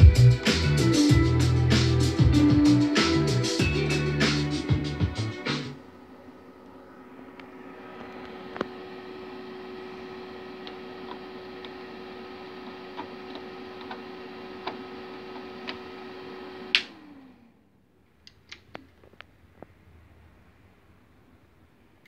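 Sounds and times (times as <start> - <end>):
amplifier hiss and hum: 0.0 - 22.0.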